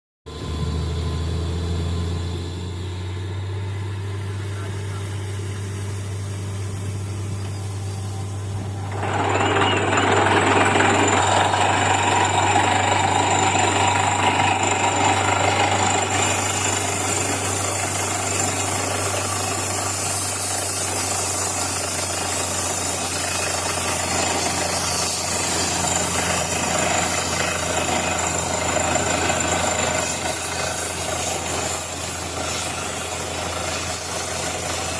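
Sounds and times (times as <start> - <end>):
diesel machinery droning: 0.3 - 34.9.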